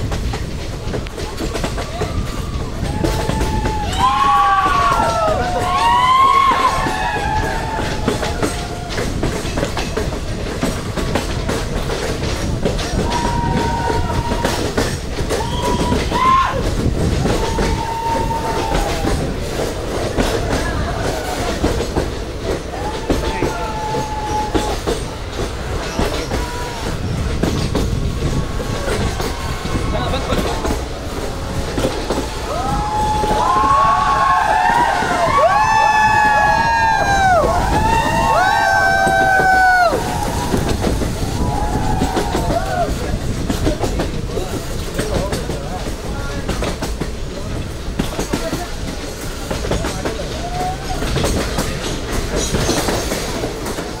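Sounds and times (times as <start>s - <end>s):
people's voices: 0.0s - 54.0s
train rumble: 0.0s - 54.0s
wheels clicking on rails: 0.0s - 54.0s.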